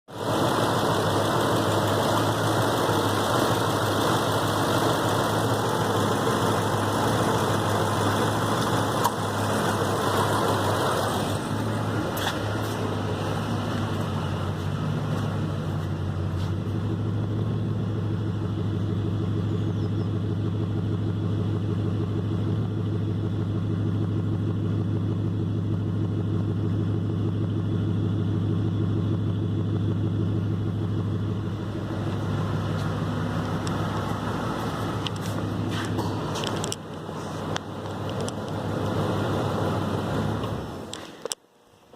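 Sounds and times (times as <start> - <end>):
engine running with misfire: 0.1 - 41.4.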